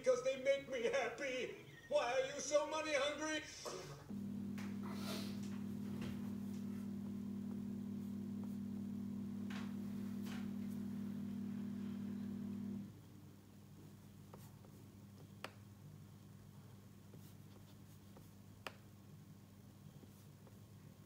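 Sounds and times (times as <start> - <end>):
low electrical hum: 4.0 - 21.0.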